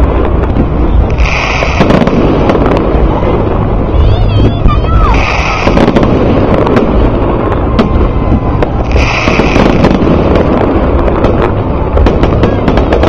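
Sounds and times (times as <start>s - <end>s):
fireworks bangs and crackles: 0.0s - 13.0s
loud continuous rumble: 0.0s - 13.0s.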